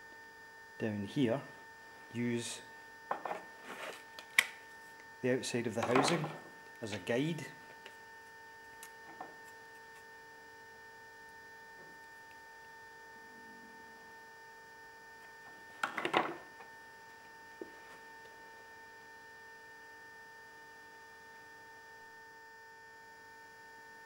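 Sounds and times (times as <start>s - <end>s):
electrical hum with whine: 0.0s - 24.0s.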